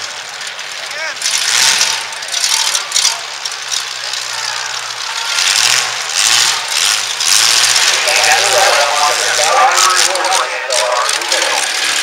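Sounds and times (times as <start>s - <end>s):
truck engines roaring: 0.0s - 12.0s.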